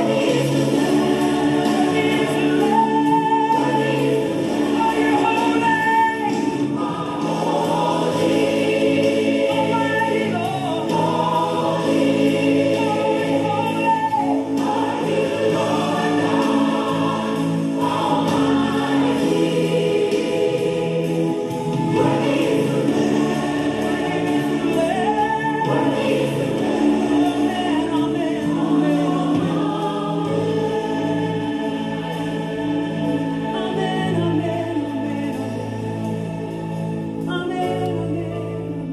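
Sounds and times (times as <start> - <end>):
choir singing over chords: 0.0 - 38.9.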